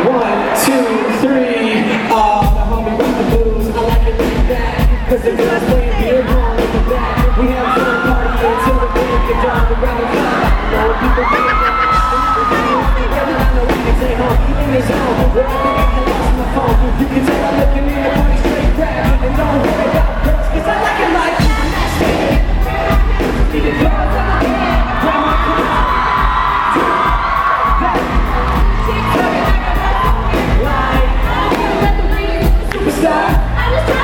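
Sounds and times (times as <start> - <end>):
crowd cheering and singing: 0.0 - 34.0
live pop-rock band: 0.3 - 34.0.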